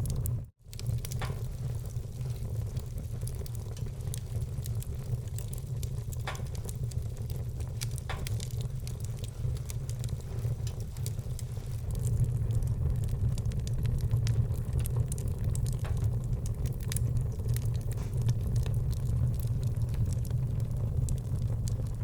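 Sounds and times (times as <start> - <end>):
fire low rumble: 0.0 - 22.0
wood fire crackling and popping: 0.0 - 22.0.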